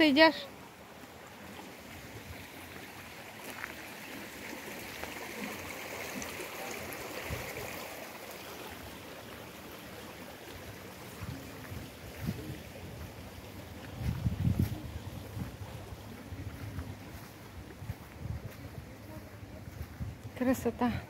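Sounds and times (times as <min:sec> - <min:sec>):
stream water rushing: 0:00.0 - 0:20.6.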